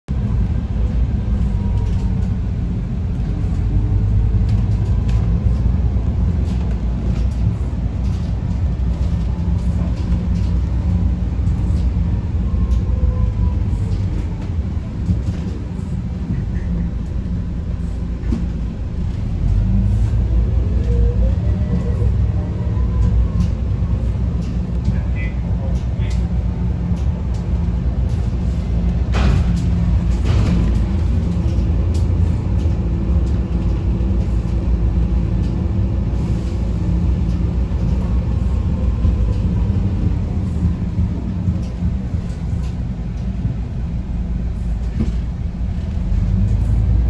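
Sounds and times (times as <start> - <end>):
bus engine rumble: 0.1 - 47.0.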